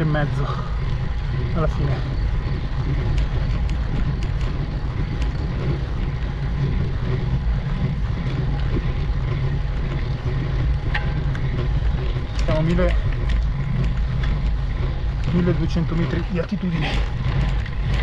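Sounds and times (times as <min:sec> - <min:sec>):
wind and road noise rumble: 0:00.0 - 0:18.0
faint ticks: 0:00.4 - 0:18.0.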